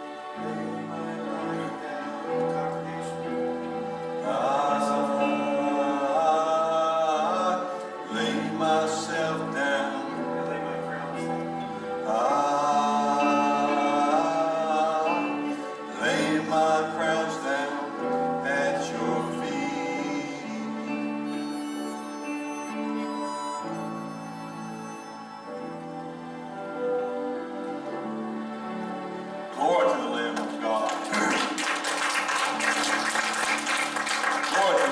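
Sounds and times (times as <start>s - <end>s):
sustained instrumental chords: 0.0s - 29.7s
worship song singing: 0.0s - 34.9s.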